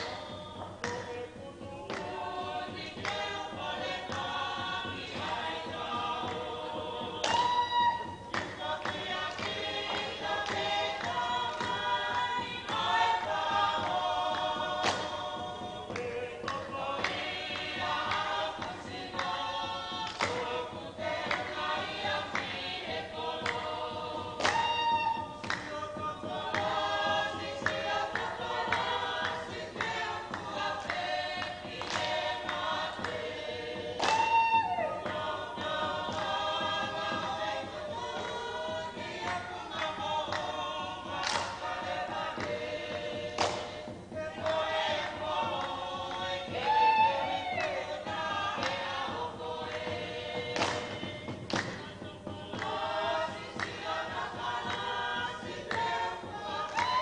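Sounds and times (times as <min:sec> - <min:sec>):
group singing chant in unison: 0:00.0 - 0:57.0
hand claps: 0:00.0 - 0:57.0.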